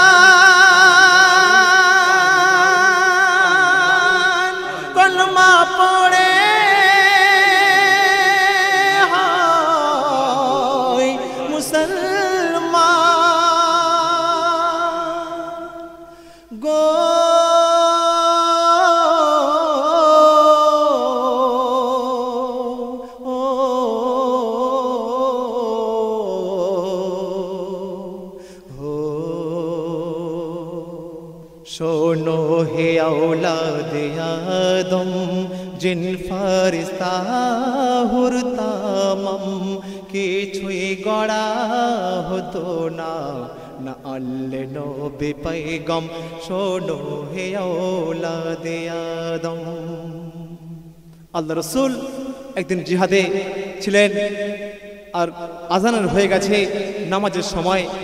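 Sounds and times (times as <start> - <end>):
man singing with vibrato: 0.0 - 58.0.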